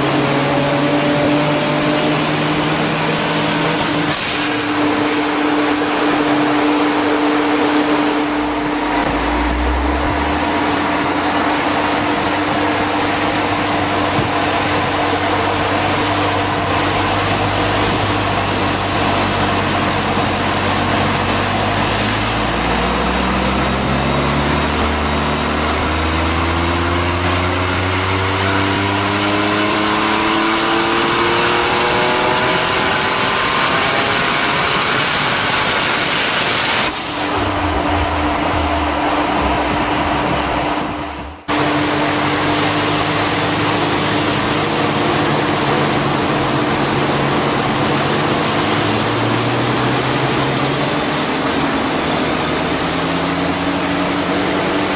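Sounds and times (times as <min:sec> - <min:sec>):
car engine revving on dynamometer: 0:00.0 - 0:54.9
loud whooshing noise: 0:00.0 - 0:54.9.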